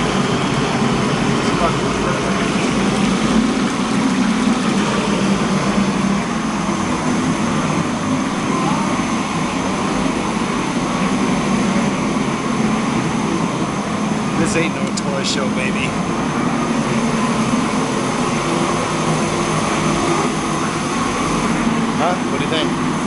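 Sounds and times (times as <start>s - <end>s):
kitchen machinery roar: 0.0s - 23.0s
low hum: 0.0s - 23.0s.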